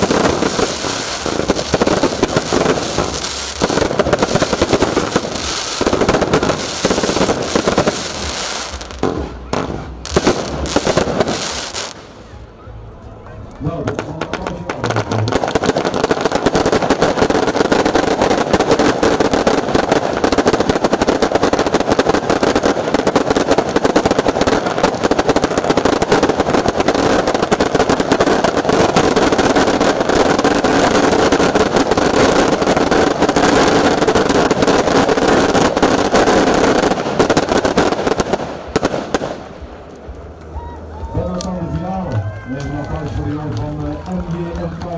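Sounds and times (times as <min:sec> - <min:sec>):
fireworks barrage: 0:00.0 - 0:12.6, 0:13.6 - 0:40.6.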